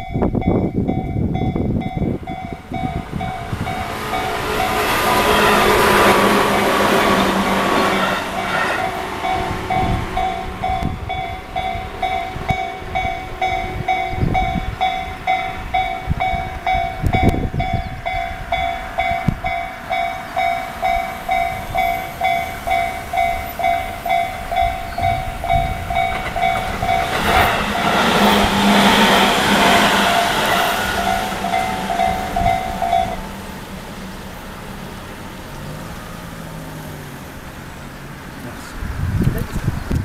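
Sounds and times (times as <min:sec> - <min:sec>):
level crossing warning bell: 0:00.0 - 0:36.3
electric train running past: 0:00.0 - 0:40.0.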